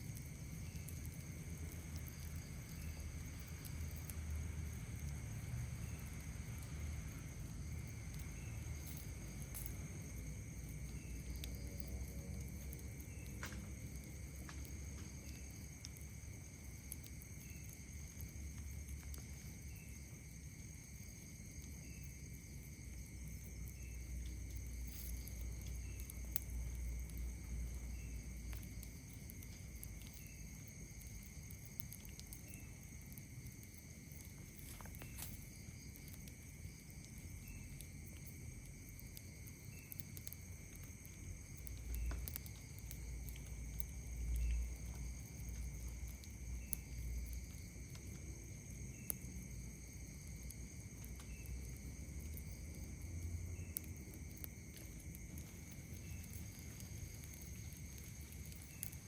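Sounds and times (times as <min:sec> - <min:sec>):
campfire pops and crackles: 0:00.0 - 0:59.0
night insects trilling: 0:00.0 - 0:59.0.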